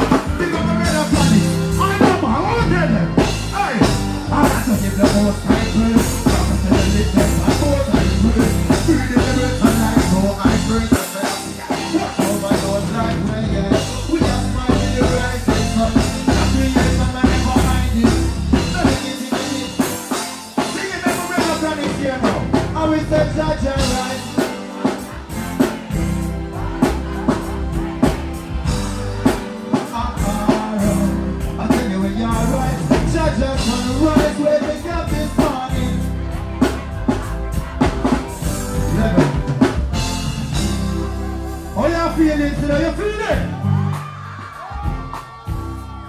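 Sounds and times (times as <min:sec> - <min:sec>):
man singing into a microphone: 0:00.0 - 0:44.0
drum kit beat: 0:00.0 - 0:46.0
reggae music through sound system: 0:00.0 - 0:46.0.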